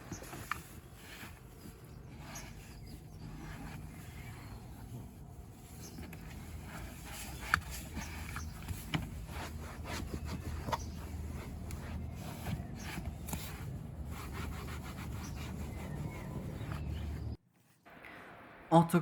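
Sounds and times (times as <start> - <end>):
scrubbing on upholstery: 0.0 - 17.4.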